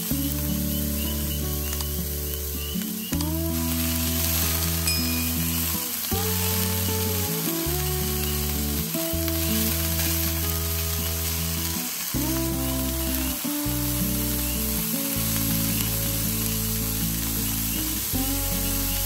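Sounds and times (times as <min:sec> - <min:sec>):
background music with sustained chords: 0:00.0 - 0:19.0
vegetables sizzling in oil: 0:00.0 - 0:19.0.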